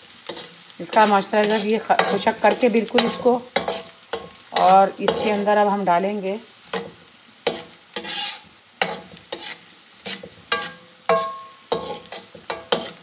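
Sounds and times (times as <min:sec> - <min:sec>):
carrots sizzling in oil: 0:00.0 - 0:13.0
metal spatula scraping wok: 0:00.1 - 0:06.0, 0:06.7 - 0:13.0.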